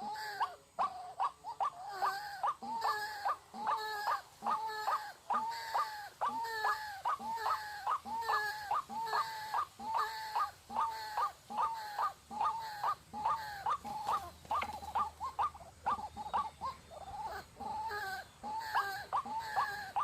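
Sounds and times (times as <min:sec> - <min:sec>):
waterhen hoarse repetitive call: 0:00.0 - 0:20.0.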